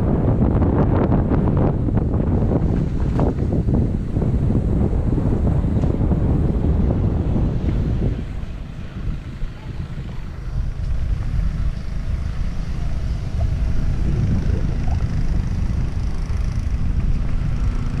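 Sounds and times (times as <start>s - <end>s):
rumble of riding on rough trail: 0.0s - 18.0s
wind buffeting microphone: 0.0s - 18.0s.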